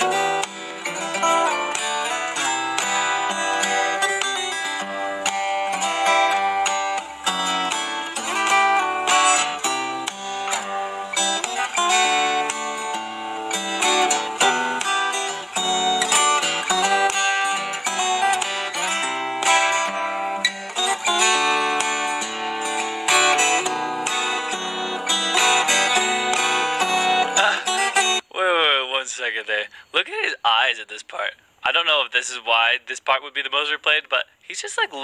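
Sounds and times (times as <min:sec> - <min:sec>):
fingerstyle acoustic guitar: 0:00.0 - 0:28.3.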